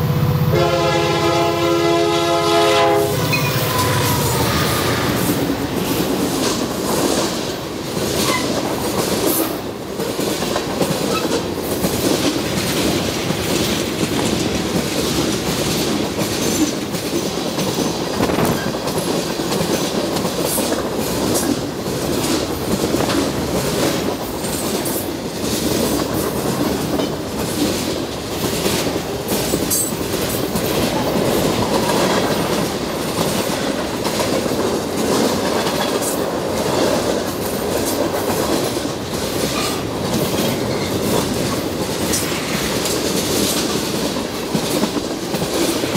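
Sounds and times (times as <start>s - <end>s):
train wheels rumbling on rails: 0.0s - 45.9s
wheels clacking over rail joints: 5.1s - 45.9s.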